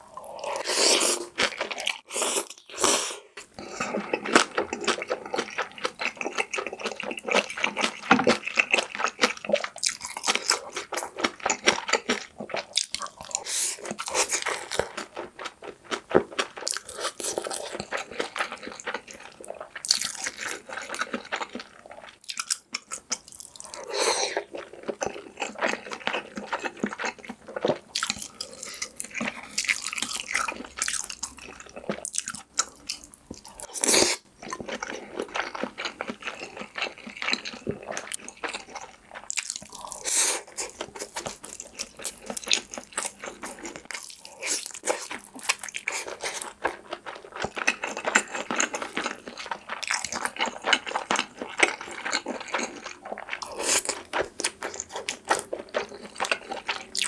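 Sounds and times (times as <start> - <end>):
close chewing and wet mouth sounds: 0.0 - 57.0.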